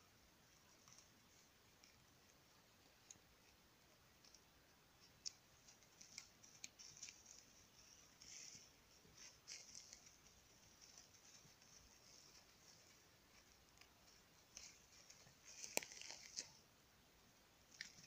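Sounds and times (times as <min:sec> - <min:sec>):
dry twigs and leaves rustling: 0:00.4 - 0:16.7, 0:17.6 - 0:18.0.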